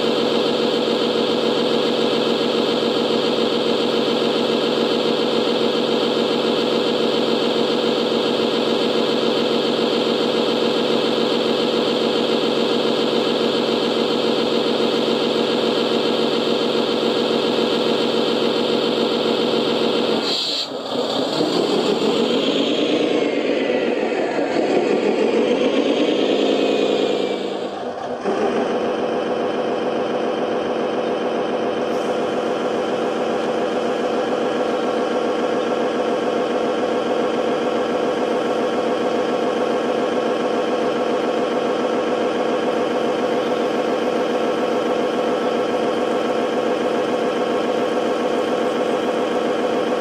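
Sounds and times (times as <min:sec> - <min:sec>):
engine rising in pitch: 0:00.0 - 0:50.0
model fire truck engine drone: 0:00.0 - 0:50.0.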